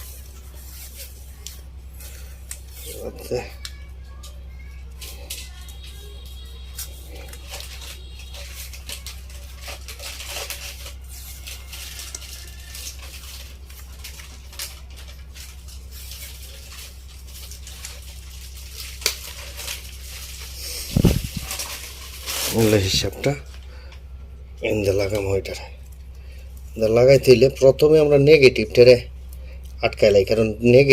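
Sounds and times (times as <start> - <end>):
low hum: 0.0 - 29.9.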